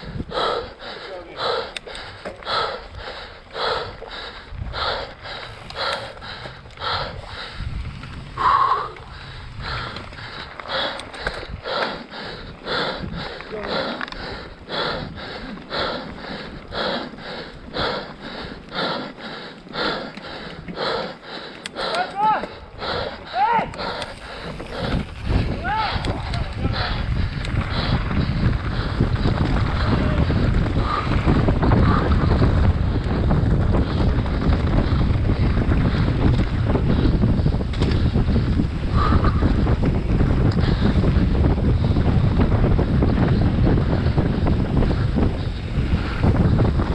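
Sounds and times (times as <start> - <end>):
heavy rhythmic breathing: 0.0 - 46.9
mountain bike rattling: 0.0 - 46.9
wind buffeting microphone: 0.0 - 46.9.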